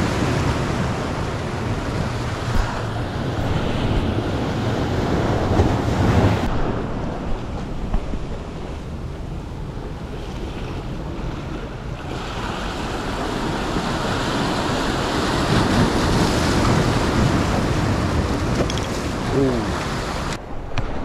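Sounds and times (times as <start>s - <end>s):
sea surf washing over rocks: 0.0s - 21.0s.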